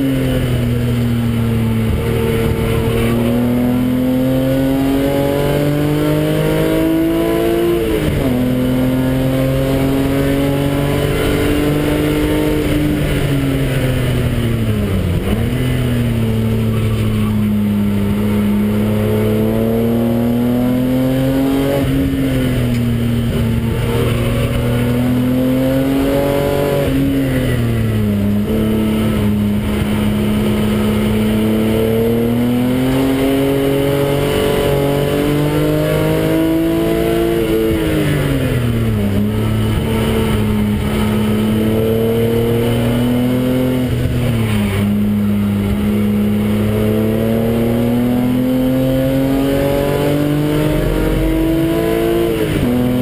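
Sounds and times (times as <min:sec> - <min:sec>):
car engine revving under acceleration: 0:00.0 - 0:53.0.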